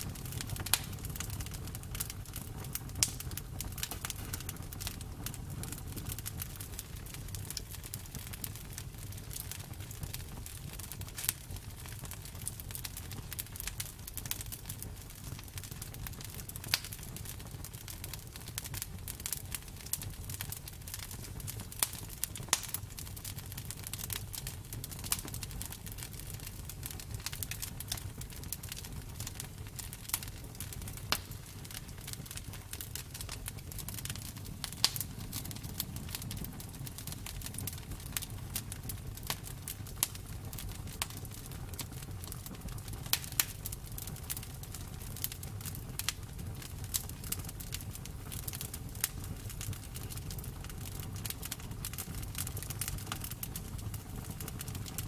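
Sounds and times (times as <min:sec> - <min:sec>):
wood fire popping and snapping: 0:00.0 - 0:55.0.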